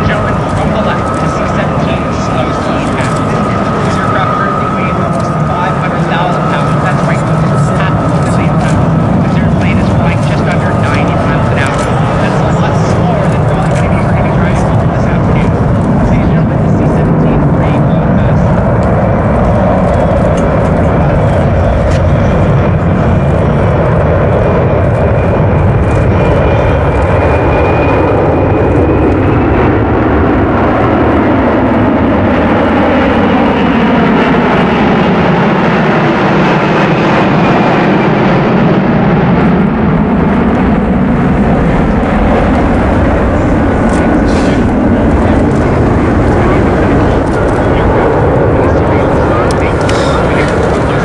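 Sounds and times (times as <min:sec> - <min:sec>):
jet engines roaring overhead: 0:00.0 - 0:51.0.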